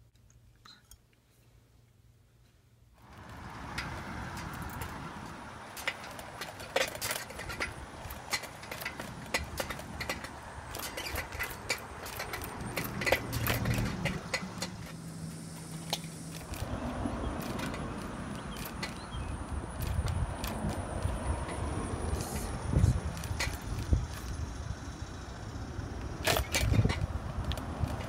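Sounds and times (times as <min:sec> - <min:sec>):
bicycle tyre rumble on concrete: 0:03.0 - 0:28.0
bike clicks and rattles: 0:03.0 - 0:28.0.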